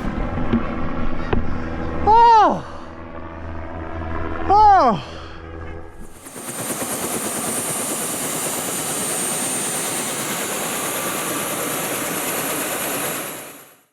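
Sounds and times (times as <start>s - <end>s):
helicopter running: 0.0s - 13.9s.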